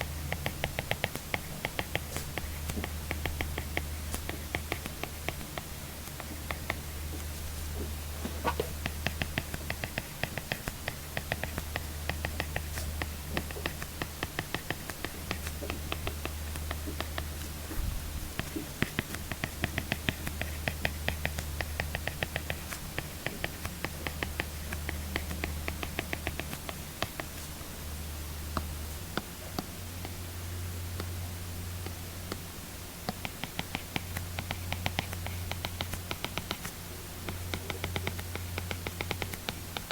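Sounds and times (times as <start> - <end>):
steady low hum: 0.0 - 39.9
stylus tapping on tablet screen: 0.2 - 17.6, 18.4 - 27.5, 33.0 - 39.9.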